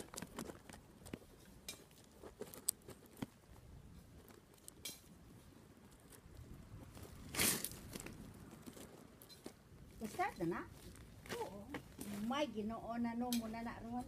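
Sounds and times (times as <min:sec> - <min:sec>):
trowel scraping soil: 0:00.0 - 0:14.0.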